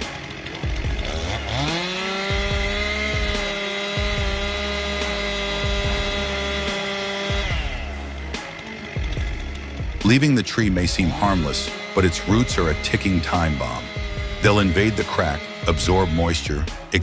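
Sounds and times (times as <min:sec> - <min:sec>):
chainsaw engine revving: 0:00.0 - 0:17.0.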